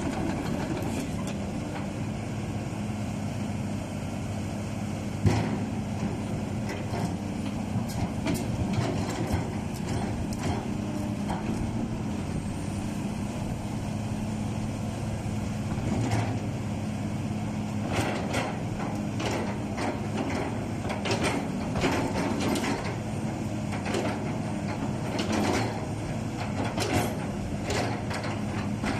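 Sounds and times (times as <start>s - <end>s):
excavator engine hum: 0.0s - 28.9s.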